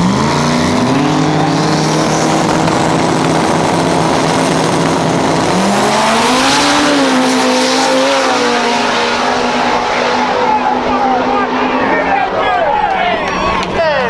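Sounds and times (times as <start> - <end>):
race car engines running: 0.0 - 14.0.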